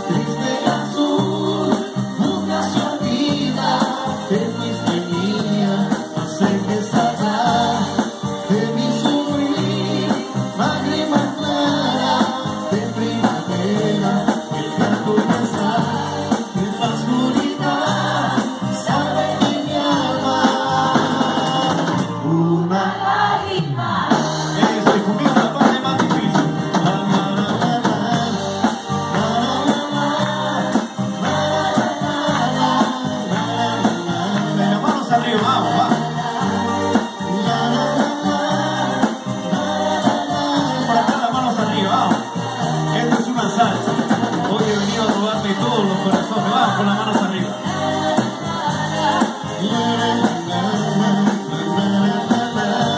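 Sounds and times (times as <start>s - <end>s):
drum kit: 0.0s - 22.8s, 23.8s - 52.9s
electric guitar: 0.0s - 52.9s
keyboard: 0.0s - 52.9s
person singing: 0.0s - 52.9s.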